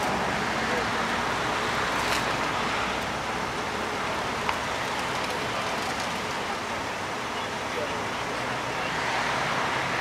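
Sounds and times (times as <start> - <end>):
road and engine noise: 0.0 - 10.0.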